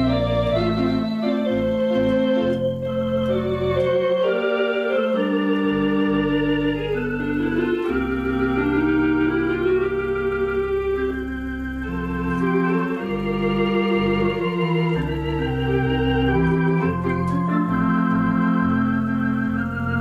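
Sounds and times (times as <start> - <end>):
electronic organ playing chords: 0.0 - 20.0
organ pedal bass notes: 0.0 - 20.0.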